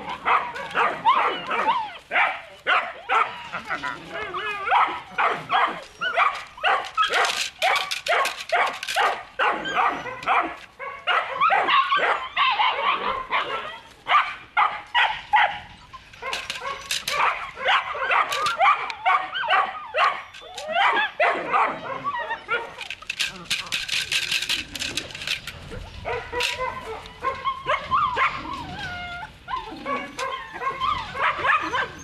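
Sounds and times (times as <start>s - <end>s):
puppy yapping and barking: 0.0s - 23.0s, 25.8s - 32.0s.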